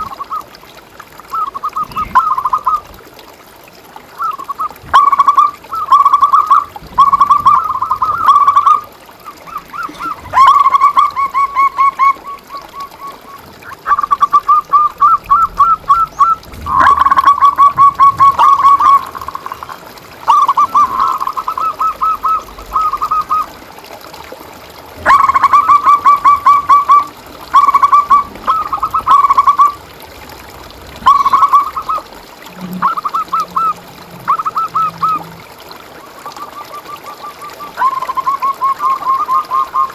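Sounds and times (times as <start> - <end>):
doves cooing trilled notes: 0.0 - 3.0, 4.0 - 39.9.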